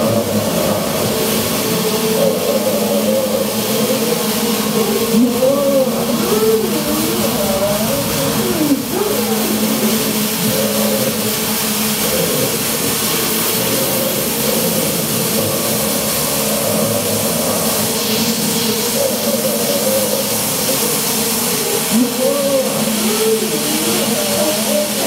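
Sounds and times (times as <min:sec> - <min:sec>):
electronic drone noise wash: 0:00.0 - 0:25.0
wavering synthesizer tones: 0:00.0 - 0:25.0.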